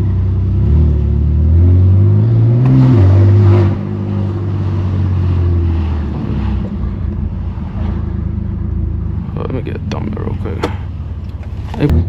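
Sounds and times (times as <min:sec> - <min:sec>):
car engine revving: 0:00.0 - 0:12.0
engine droning: 0:00.0 - 0:12.0.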